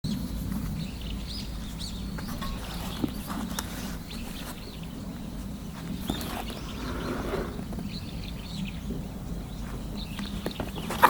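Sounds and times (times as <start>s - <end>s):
low outdoor rumble: 0.1s - 11.0s
small birds chirping: 0.1s - 11.0s.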